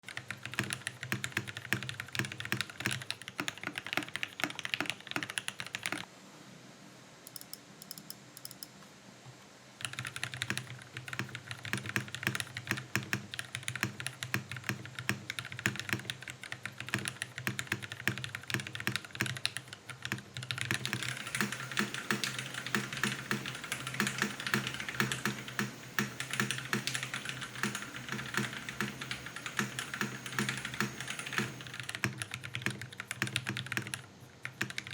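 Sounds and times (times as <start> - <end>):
mechanical keyboard typing: 0.0 - 6.1, 7.3 - 8.7, 9.8 - 34.9.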